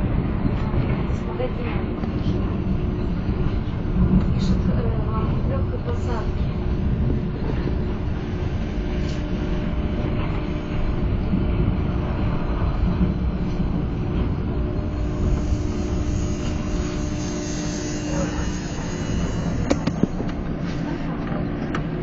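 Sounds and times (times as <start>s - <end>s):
constant hum: 0.0s - 22.0s
monorail car rumbling: 0.0s - 22.0s.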